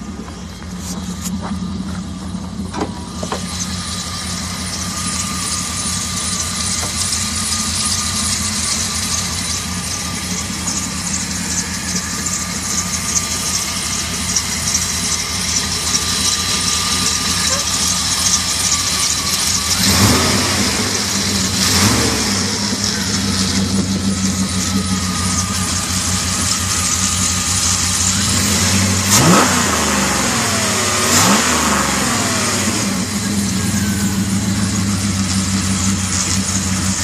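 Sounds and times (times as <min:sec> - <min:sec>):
car engine idling: 0:00.0 - 0:37.0
high whine: 0:00.0 - 0:37.0.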